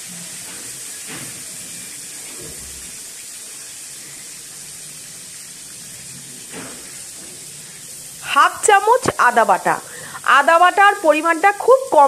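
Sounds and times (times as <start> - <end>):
chillies sizzling in hot oil: 0.0 - 12.0.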